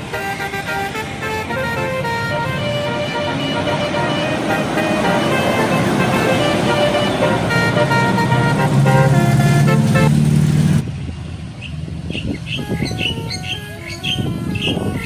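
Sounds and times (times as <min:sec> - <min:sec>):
bus horn playing melody: 0:00.0 - 0:10.4, 0:12.5 - 0:15.0
bus engine noise: 0:00.0 - 0:15.0.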